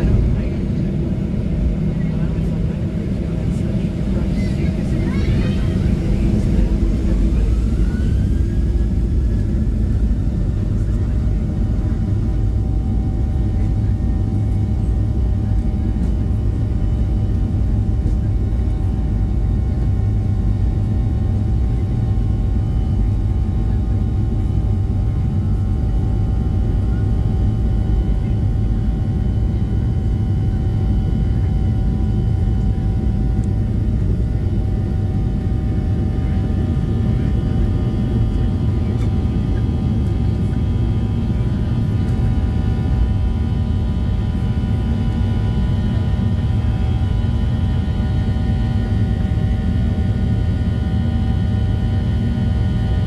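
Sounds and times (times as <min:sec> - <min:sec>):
jet engines roaring: 0:00.0 - 0:53.0
jet fan whine: 0:00.0 - 0:53.0
runway rumble: 0:00.0 - 0:53.0.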